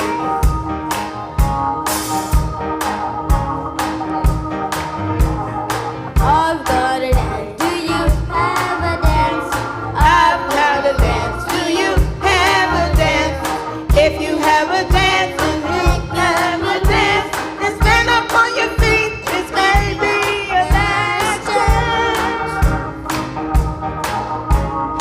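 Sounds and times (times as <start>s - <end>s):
gospel choir singing: 0.0s - 23.4s
live band: 0.0s - 25.0s
steady drumbeat: 0.0s - 25.0s.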